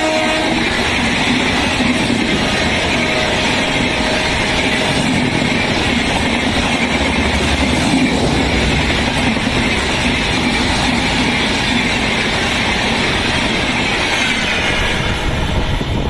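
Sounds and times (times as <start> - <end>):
train rushing past on rails: 0.0 - 16.0.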